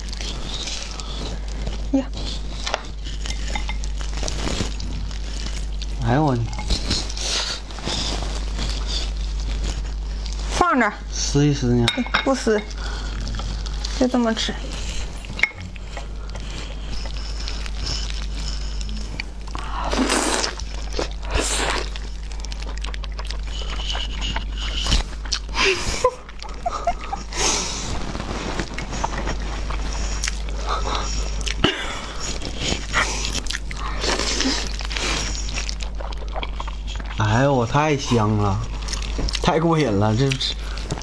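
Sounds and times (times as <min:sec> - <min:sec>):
biting and chewing: 0:00.0 - 0:10.6, 0:12.7 - 0:41.0
low steady hum: 0:00.0 - 0:41.0.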